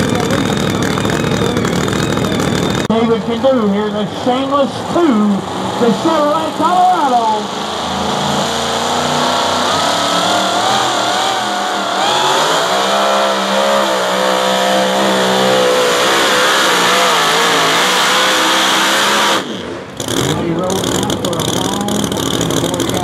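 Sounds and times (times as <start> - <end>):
supercharged truck engine at full throttle: 0.0 - 23.0.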